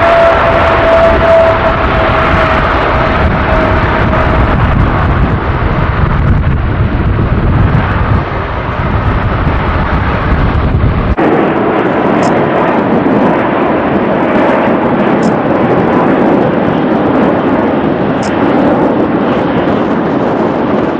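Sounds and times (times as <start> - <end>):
jet engines roaring: 0.0 - 20.9
steady rushing noise: 0.0 - 20.9
wind buffeting microphone: 0.0 - 20.9.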